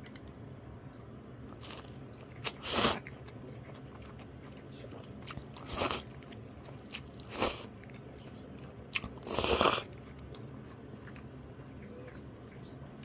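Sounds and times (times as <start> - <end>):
crunchy food chewing: 0.9 - 12.3.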